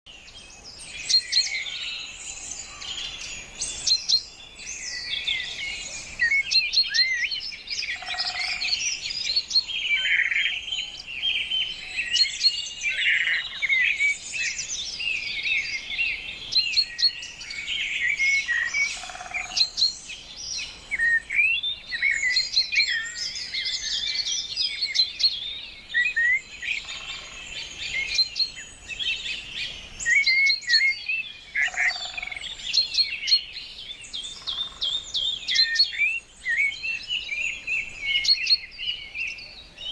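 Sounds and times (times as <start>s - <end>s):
birds chirping and whistling: 0.1s - 39.9s.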